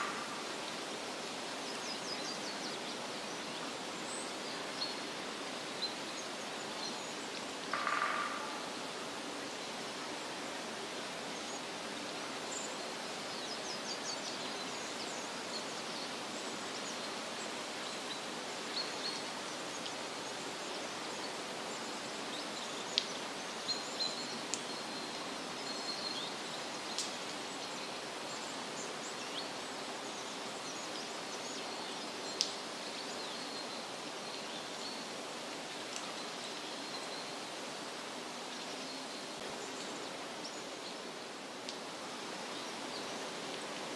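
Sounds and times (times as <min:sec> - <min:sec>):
forest background rush: 0:00.0 - 0:43.9.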